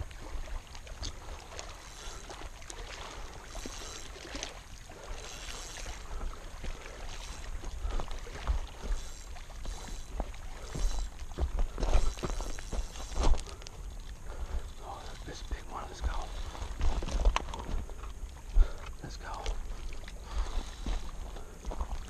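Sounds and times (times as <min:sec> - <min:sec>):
soft hissing rustles: 0:01.1 - 0:22.0.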